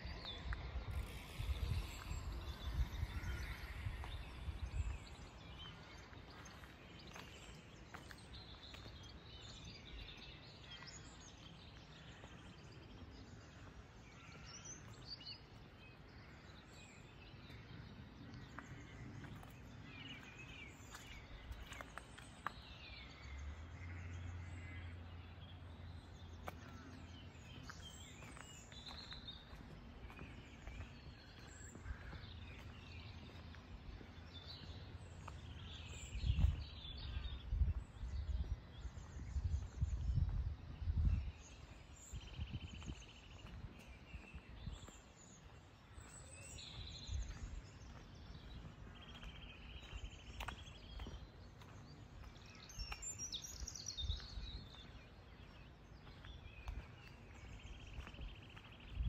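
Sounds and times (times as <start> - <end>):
songbirds chirping and singing: 0.0 - 59.0.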